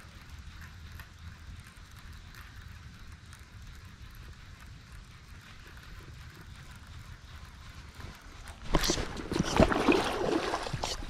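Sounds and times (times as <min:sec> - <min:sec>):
fishing reel whirring: 0:00.0 - 0:09.8.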